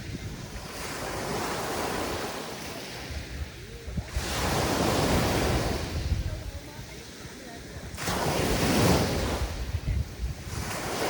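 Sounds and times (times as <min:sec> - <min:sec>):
sea waves breaking on beach: 0:00.0 - 0:11.0
wind rumble on microphone: 0:00.0 - 0:11.0.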